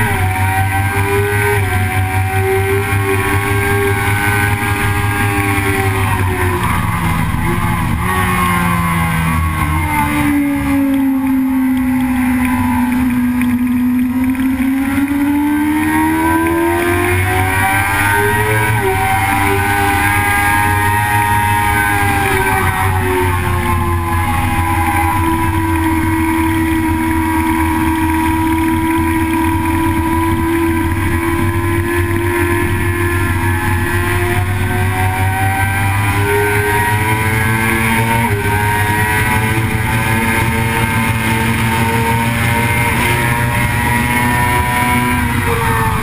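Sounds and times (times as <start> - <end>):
vehicle engine running hard: 0.0 - 46.0.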